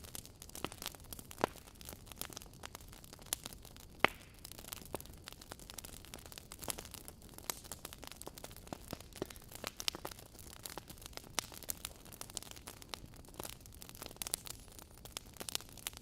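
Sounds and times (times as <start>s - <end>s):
soft fire hiss: 0.0s - 16.0s
wood fire crackling and popping: 0.0s - 16.0s.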